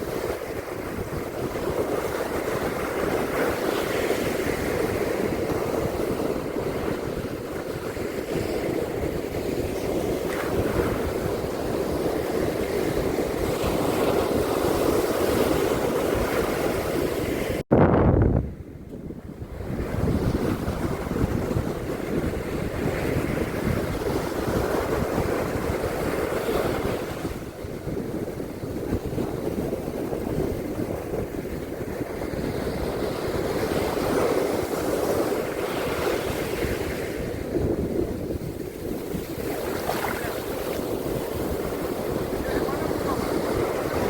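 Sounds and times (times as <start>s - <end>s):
ocean waves washing onto beach: 0.0s - 17.6s, 18.5s - 44.0s
wind buffeting microphone: 0.0s - 44.0s.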